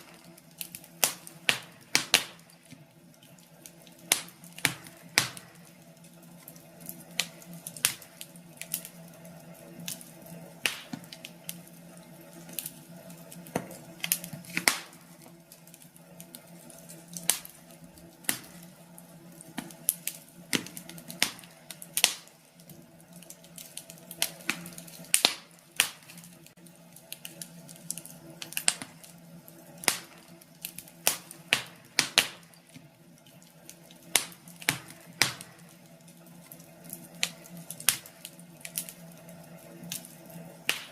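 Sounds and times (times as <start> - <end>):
steady low hum: 0.0 - 40.9
wood fire crackling and popping: 0.0 - 40.9.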